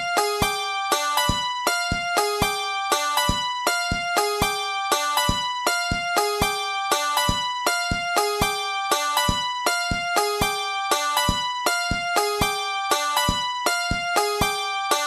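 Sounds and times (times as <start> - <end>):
looping instrumental music: 0.0 - 15.0.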